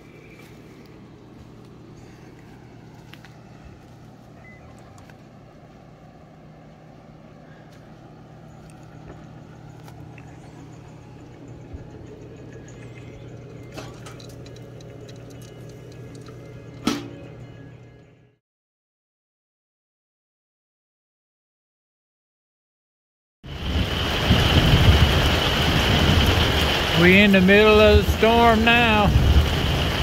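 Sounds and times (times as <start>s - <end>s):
low mechanical hum: 0.0s - 18.4s, 23.5s - 30.0s.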